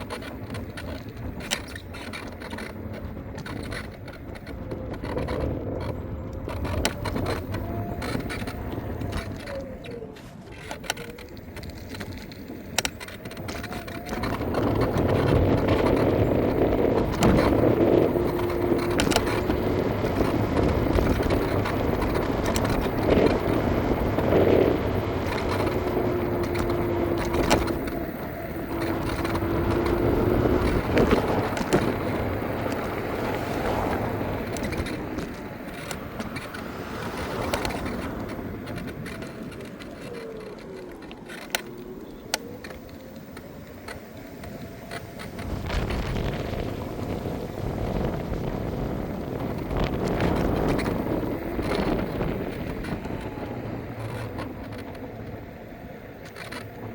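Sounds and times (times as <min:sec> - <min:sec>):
clicks and rattles: 0:00.0 - 0:48.5, 0:49.3 - 0:56.9
thin motor whine: 0:00.0 - 0:56.9
tyre and wind rumble: 0:00.0 - 0:56.9.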